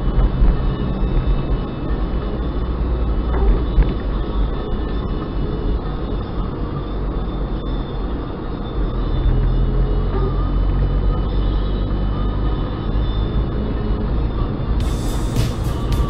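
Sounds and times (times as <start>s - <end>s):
car interior road and engine rumble: 0.0s - 16.0s.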